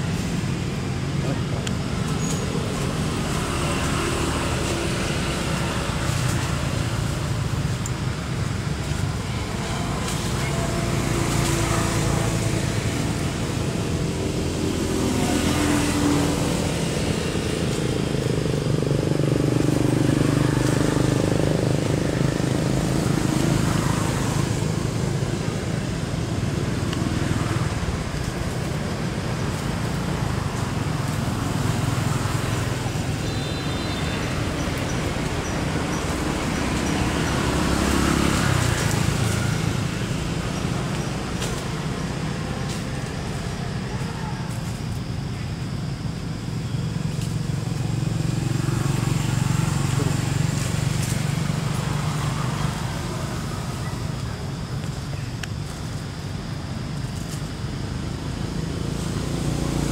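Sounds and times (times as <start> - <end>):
low rumble of engine and traffic: 0.0 - 59.9.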